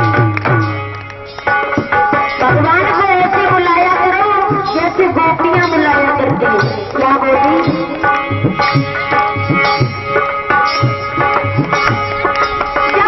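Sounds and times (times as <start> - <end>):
held melodic notes: 0.0 - 13.0
tabla playing a rhythm: 0.0 - 13.0.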